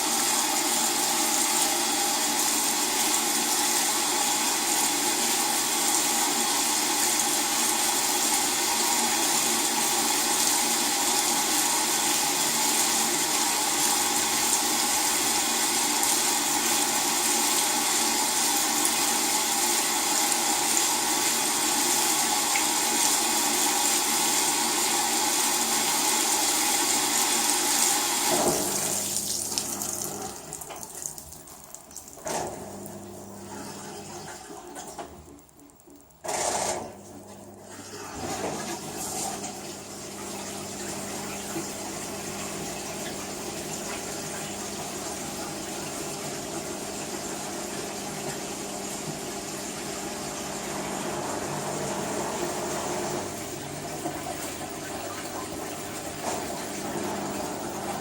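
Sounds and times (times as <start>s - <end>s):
washing machine filling with water: 0.0s - 58.0s.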